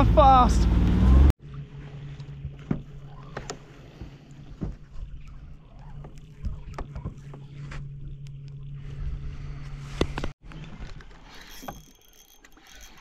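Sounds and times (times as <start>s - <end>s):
boat engine low hum: 0.0s - 13.0s.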